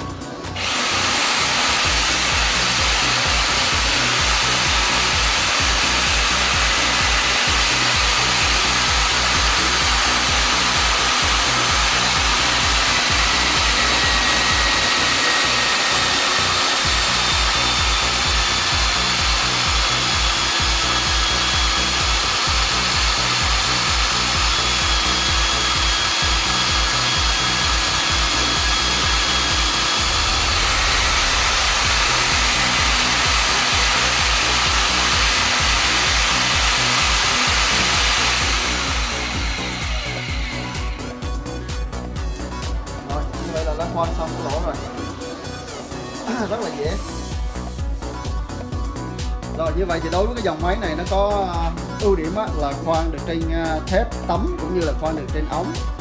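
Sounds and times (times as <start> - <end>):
magnetic drill motor with high whine: 0.0 - 47.6.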